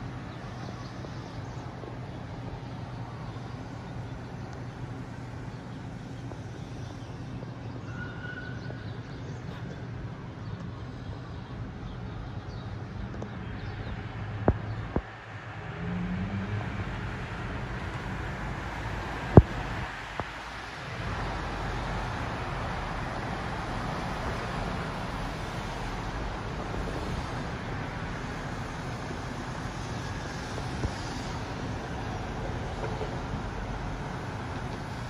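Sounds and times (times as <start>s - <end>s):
distant city traffic hum: 0.0s - 35.0s.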